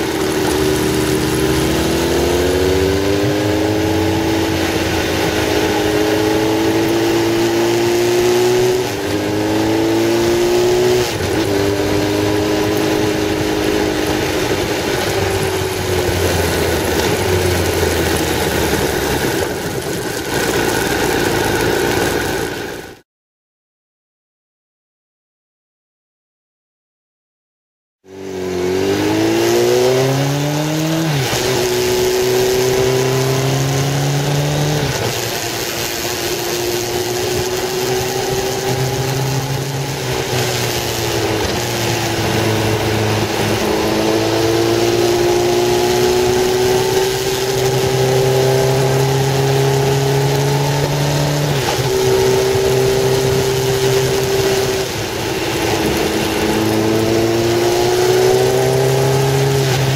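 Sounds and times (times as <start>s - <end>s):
wind noise: 0.0s - 22.9s, 28.5s - 59.9s
motorcycle engine accelerating: 0.0s - 23.0s, 28.0s - 59.9s.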